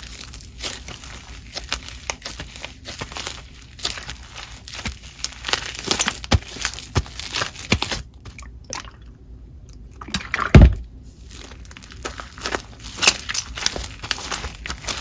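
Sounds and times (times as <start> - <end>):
crunchy slime squeezed by hand: 0.0 - 8.6, 10.1 - 15.0.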